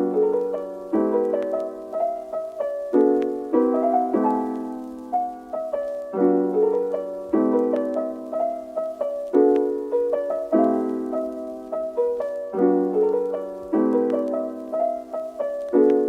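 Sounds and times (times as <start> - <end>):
gentle slow piano piece: 0.0 - 16.0.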